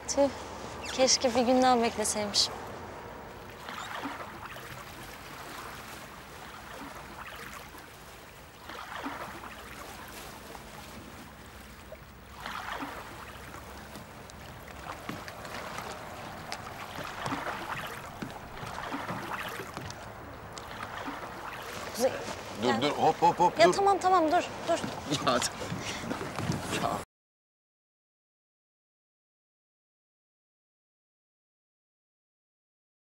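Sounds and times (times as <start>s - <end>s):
water lapping around rowboat: 0.0s - 27.0s.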